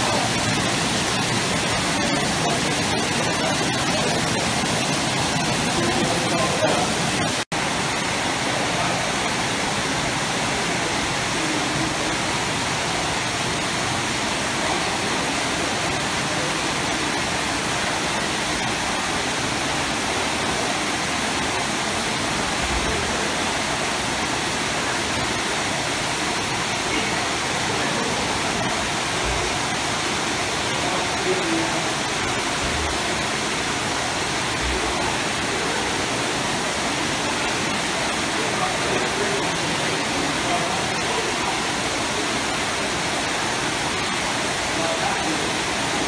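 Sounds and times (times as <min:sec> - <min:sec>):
pool water bubbling and churning: 0:00.0 - 0:46.0
water spouts pouring: 0:00.0 - 0:46.0.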